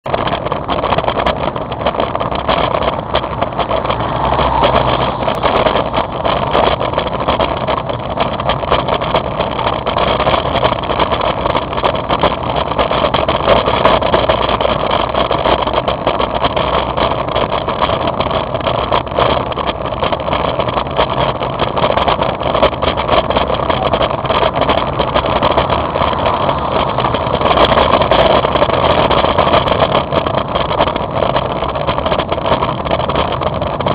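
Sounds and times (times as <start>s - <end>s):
small crackles: 0.0s - 33.9s
tyres on wet road: 0.0s - 33.9s
wind rushing: 0.0s - 33.9s.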